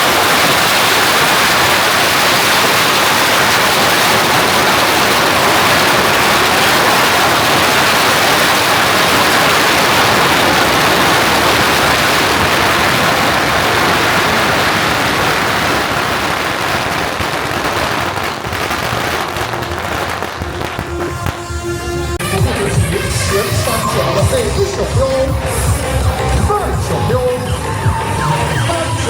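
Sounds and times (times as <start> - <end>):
firecrackers crackling: 0.0 - 29.0.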